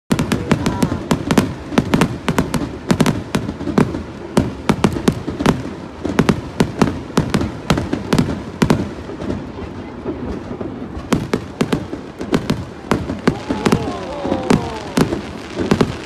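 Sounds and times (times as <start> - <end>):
fireworks bangs and pops: 0.1 - 16.0.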